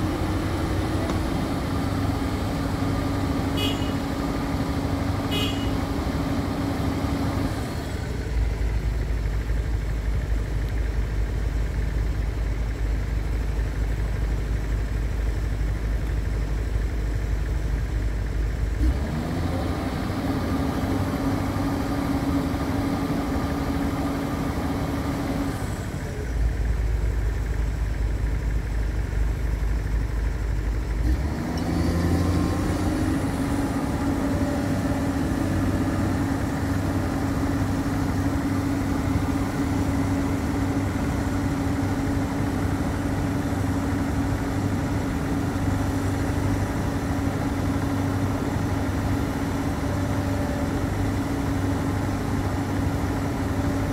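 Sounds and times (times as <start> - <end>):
excavator diesel engine hum: 0.0 - 53.9.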